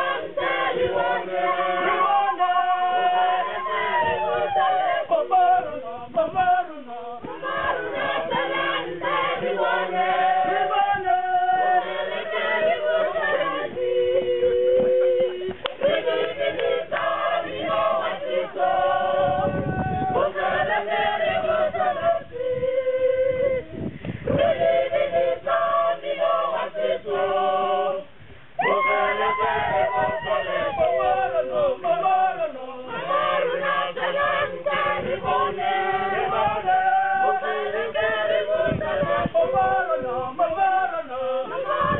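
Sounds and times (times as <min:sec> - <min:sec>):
choir singing unaccompanied: 0:00.0 - 0:41.9.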